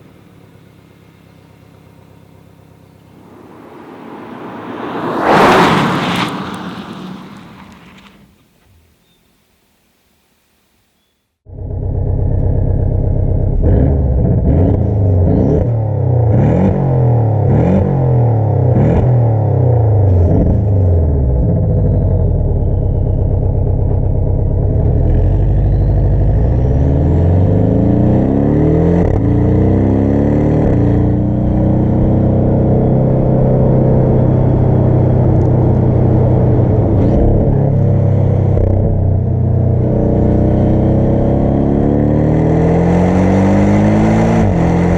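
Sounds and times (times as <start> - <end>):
sports car engine revving: 2.8 - 8.0, 11.5 - 44.9.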